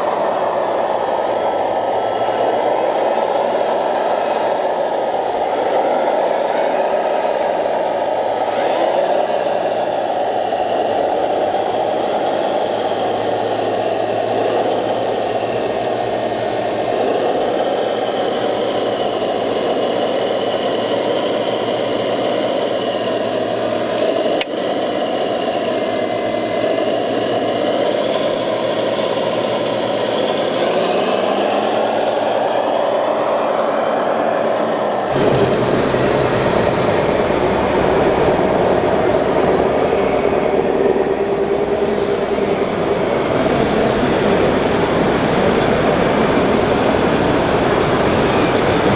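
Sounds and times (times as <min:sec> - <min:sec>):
small motors whirring and whining: 0:00.0 - 0:48.9.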